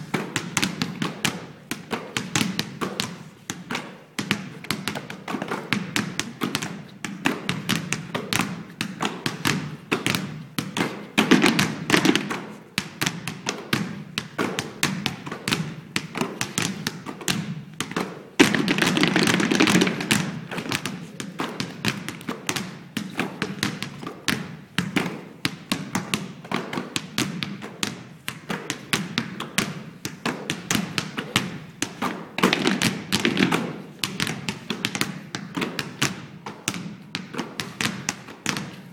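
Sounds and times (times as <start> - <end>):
basketballs bouncing on stage: 0.0 - 38.9.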